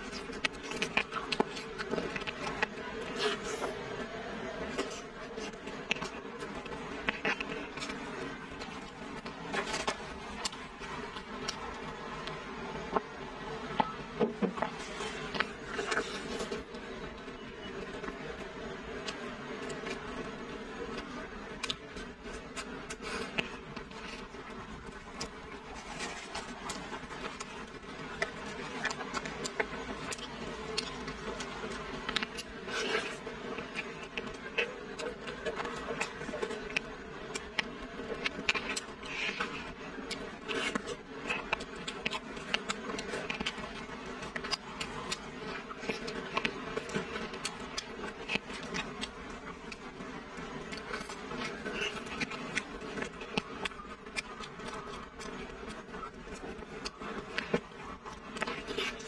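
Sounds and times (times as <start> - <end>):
crackles: 0.0 - 59.0
steady background hum: 0.0 - 59.0.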